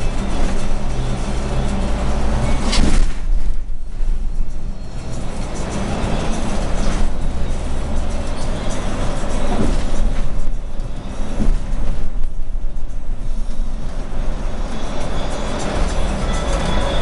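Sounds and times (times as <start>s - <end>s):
bus engine and road rumble: 0.0s - 17.0s
rattling noise: 0.0s - 17.0s.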